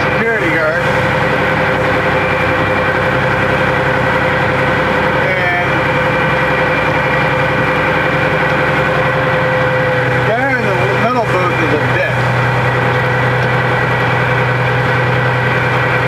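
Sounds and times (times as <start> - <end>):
constant whine: 0.0 - 16.0
heavy vehicle engine droning: 0.0 - 16.0.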